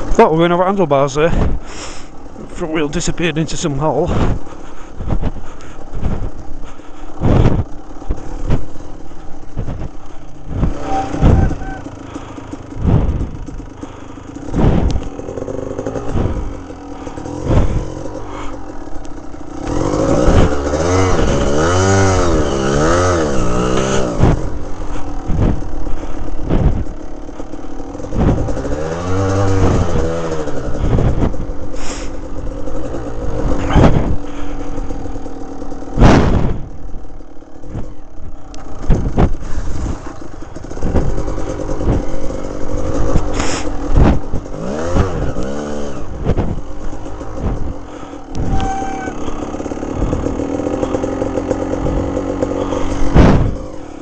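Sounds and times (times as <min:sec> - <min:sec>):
dirt bike engine revving: 0:00.0 - 0:54.0
bike knocking and clattering: 0:01.3 - 0:54.0.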